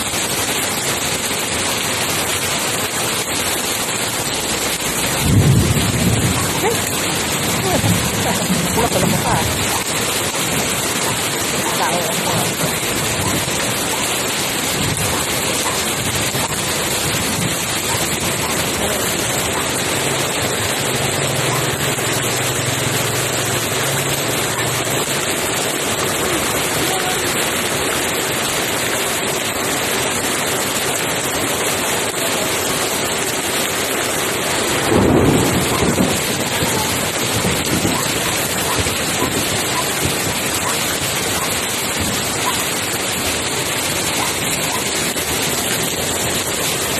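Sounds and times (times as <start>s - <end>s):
heavy rain on pavement: 0.0s - 46.9s
rain splashing into water: 0.0s - 46.9s.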